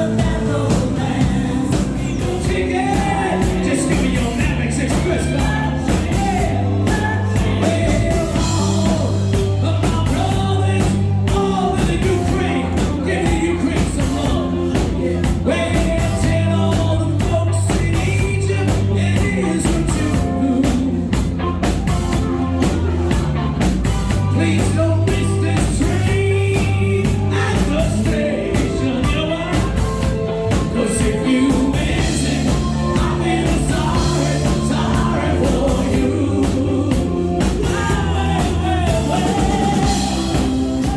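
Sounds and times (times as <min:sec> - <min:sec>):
lead vocal singing: 0:00.0 - 0:40.9
live band playing a song: 0:00.0 - 0:40.9.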